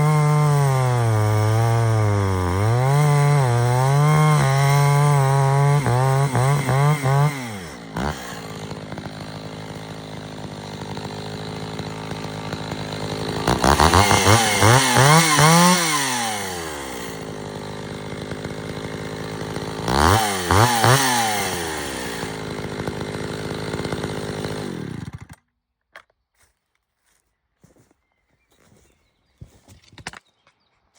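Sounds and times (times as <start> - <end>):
chainsaw idling and revving: 0.0 - 25.5.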